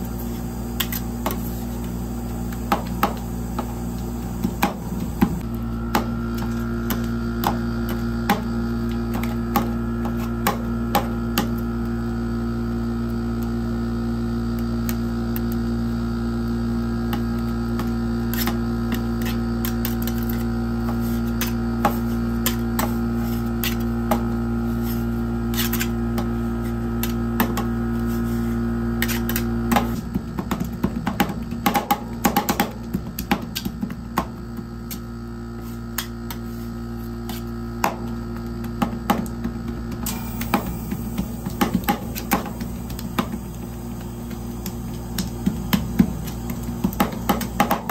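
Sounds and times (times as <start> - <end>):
steady machine hum: 0.0 - 47.9.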